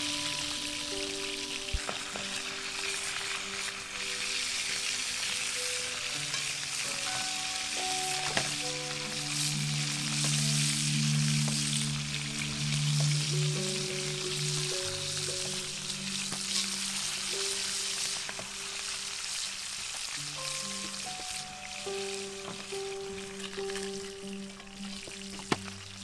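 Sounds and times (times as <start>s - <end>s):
fish frying in oil: 0.0s - 26.0s
soft background music: 0.0s - 26.0s.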